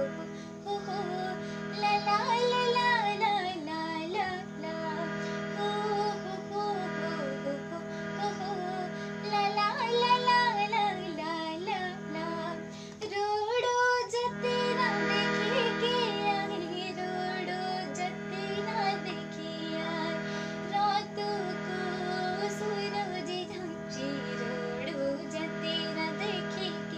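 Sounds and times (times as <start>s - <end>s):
steady drone: 0.0s - 26.9s
woman singing folk song: 0.0s - 26.9s.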